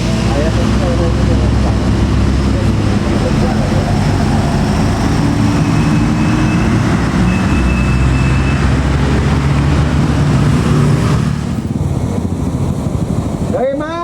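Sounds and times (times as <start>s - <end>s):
bus diesel engine drone: 0.0s - 14.0s
road noise: 0.0s - 14.0s.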